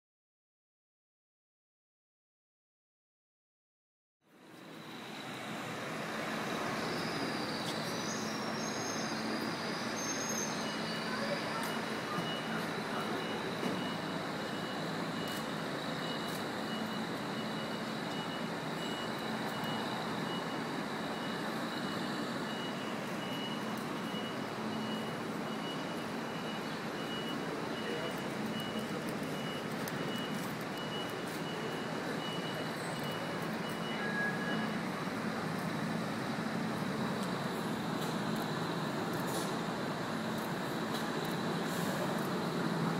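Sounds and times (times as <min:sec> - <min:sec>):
city street traffic: 0:04.2 - 0:42.9.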